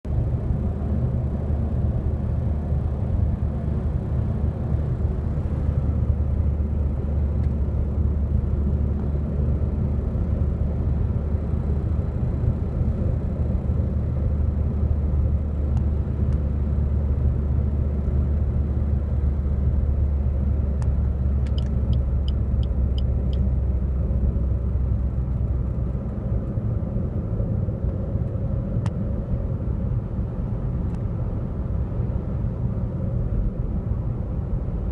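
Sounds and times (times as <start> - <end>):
road and engine rumble: 0.0 - 34.9.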